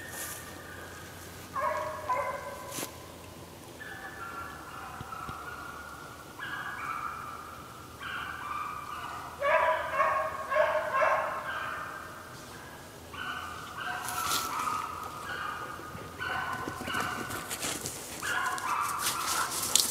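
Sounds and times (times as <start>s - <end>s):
dogs barking: 0.0s - 3.0s, 3.8s - 19.9s
hounds baying: 0.0s - 3.0s, 3.8s - 19.9s.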